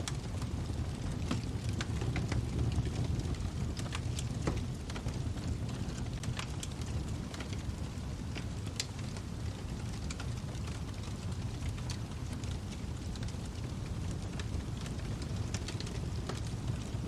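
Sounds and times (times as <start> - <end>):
fireplace fire crackling and popping: 0.0 - 17.0.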